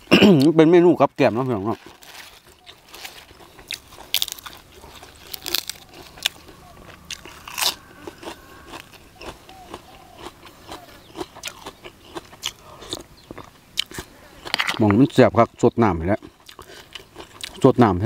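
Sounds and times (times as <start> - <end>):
person chewing crunchy food: 1.6 - 15.2, 16.1 - 17.8.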